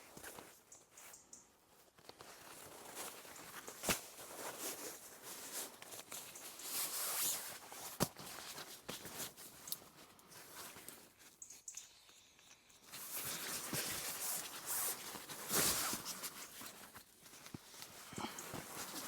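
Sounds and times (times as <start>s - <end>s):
camping gear rustling: 0.0s - 19.0s.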